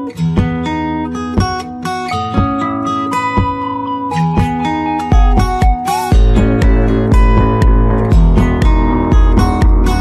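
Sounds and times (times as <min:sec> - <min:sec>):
plucked and strummed guitar music: 0:00.0 - 0:10.0.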